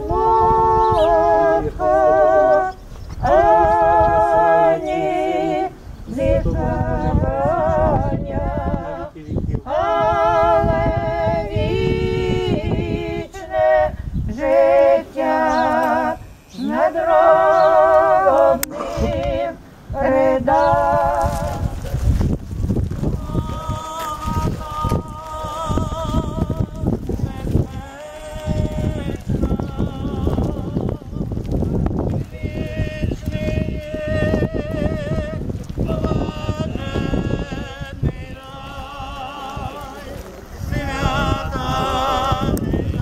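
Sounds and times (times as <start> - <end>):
choir chanting unaccompanied: 0.0 - 22.0, 23.0 - 31.2, 32.2 - 43.0.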